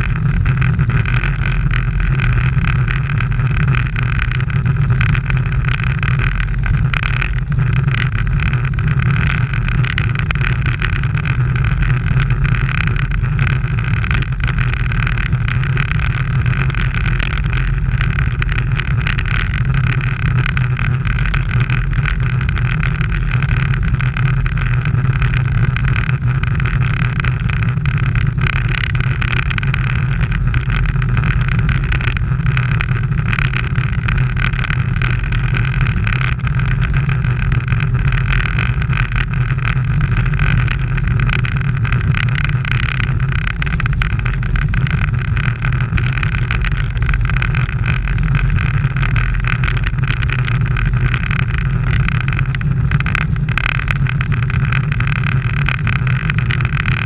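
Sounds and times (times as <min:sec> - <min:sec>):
wind rush and road noise: 0:00.0 - 0:57.0.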